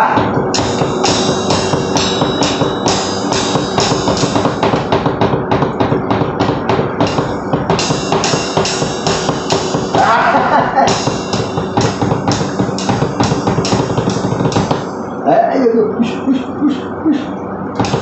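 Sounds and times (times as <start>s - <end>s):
drum and bass drum hits: 0.0s - 15.1s, 17.8s - 18.0s
cymbal hits: 0.0s - 15.2s, 17.8s - 18.0s.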